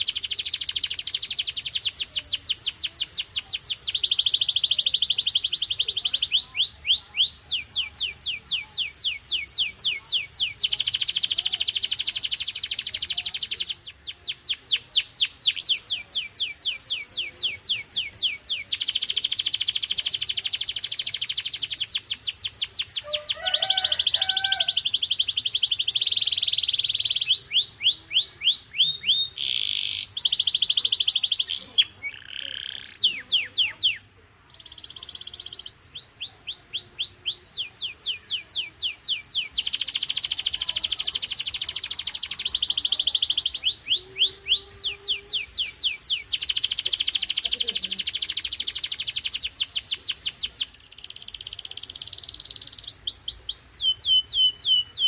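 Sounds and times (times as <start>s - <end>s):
canary singing rapid rolls: 0.0s - 55.0s.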